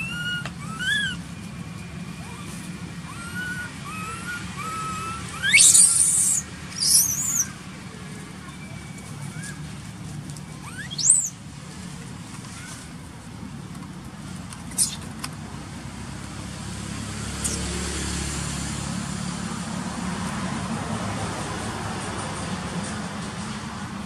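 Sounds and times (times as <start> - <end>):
traffic engine hum: 0.0 - 24.0
tyre and road noise: 0.0 - 24.0.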